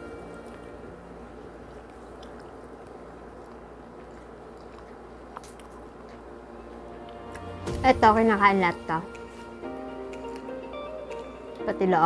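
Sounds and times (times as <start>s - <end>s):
chewing: 0.0s - 7.6s, 9.0s - 11.6s.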